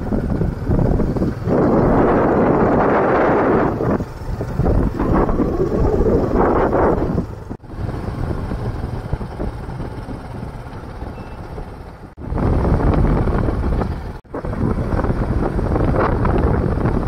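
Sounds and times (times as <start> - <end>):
vehicle rumble on road: 0.0 - 17.0
wind buffeting microphone: 0.0 - 17.0.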